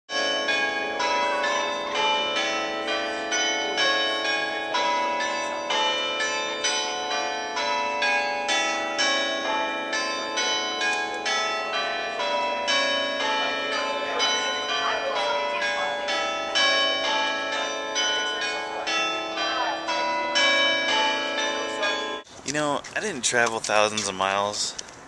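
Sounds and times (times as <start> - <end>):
church tower bells ringing: 0.1 - 22.3.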